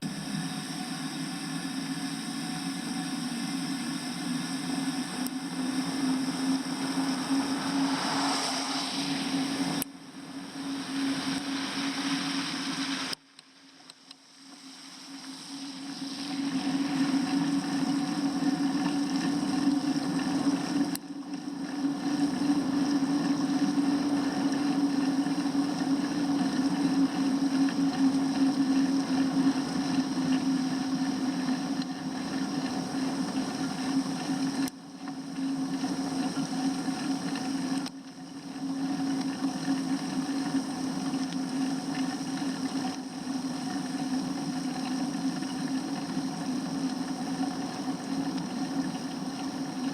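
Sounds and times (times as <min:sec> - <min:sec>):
bicycle riding hum and rush: 0:00.0 - 0:49.9.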